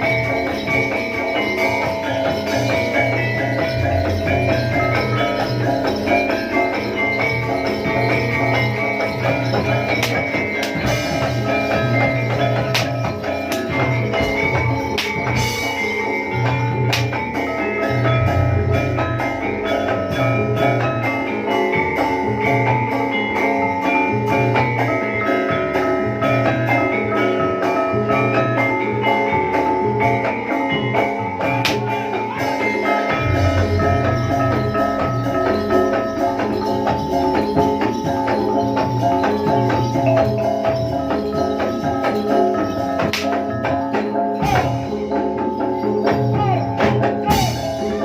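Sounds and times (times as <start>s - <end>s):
drums with steady beat: 0.0s - 48.0s
metal mallet percussion ringing: 0.0s - 48.0s.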